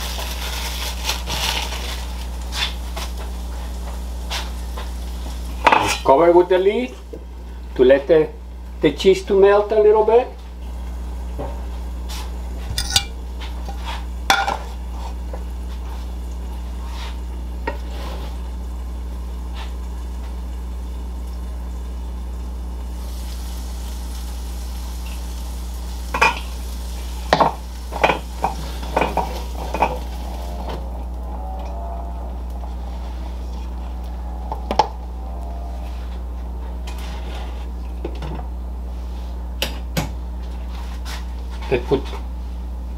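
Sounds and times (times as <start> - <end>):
faint sizzle from pan: 0.0 - 39.7
steady low hum: 0.0 - 42.9.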